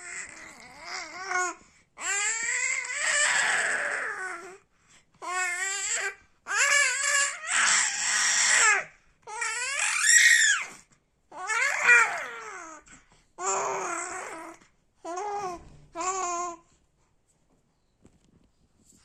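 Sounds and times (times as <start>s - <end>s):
baby fussing and cooing: 0.0s - 16.7s.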